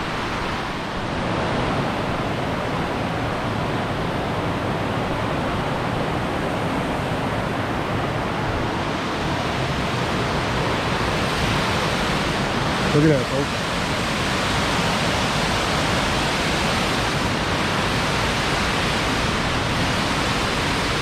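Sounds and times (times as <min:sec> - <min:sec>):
creek water rushing over rapids: 0:00.0 - 0:21.0.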